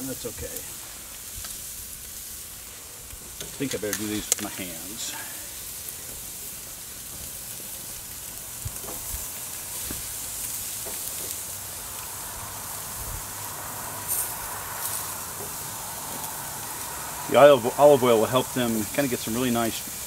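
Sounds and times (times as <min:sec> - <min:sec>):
food sizzling on grill: 0:00.0 - 0:20.0.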